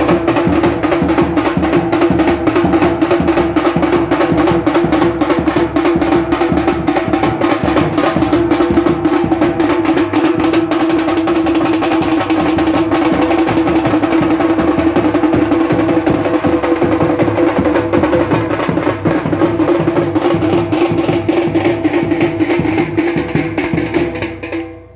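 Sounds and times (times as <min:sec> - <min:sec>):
fast loud drumming: 0:00.0 - 0:24.9.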